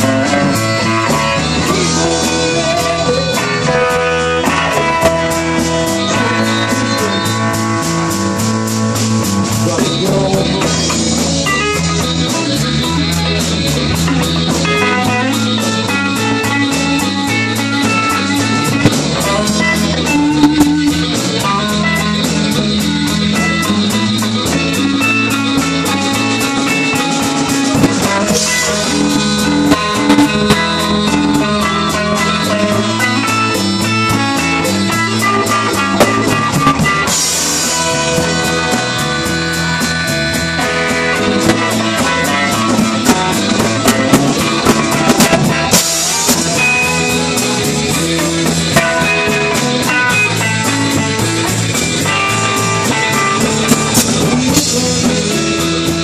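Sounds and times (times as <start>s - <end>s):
amplified harmonica: 0.0s - 56.0s
blues-rock band playing: 0.0s - 56.0s.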